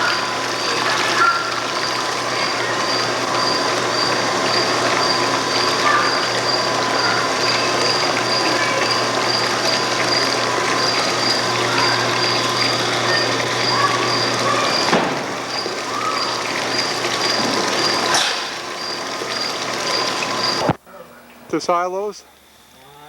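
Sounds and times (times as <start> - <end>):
milking pump hiss and hum: 0.0 - 20.8.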